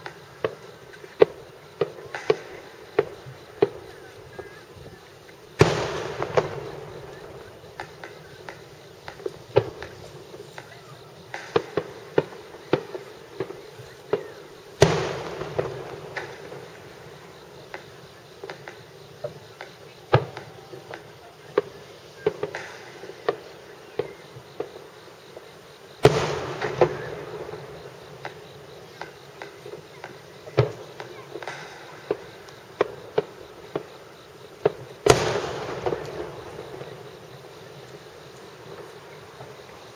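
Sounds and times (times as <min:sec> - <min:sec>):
heavy firework booms with rumble: 0:00.0 - 0:22.6, 0:23.2 - 0:39.7
distant firework pops and bangs: 0:00.0 - 0:39.9.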